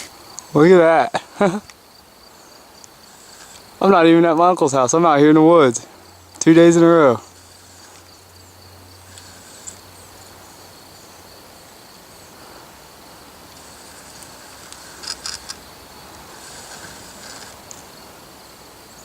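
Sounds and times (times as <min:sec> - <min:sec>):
insects calling: 0:00.0 - 0:19.0.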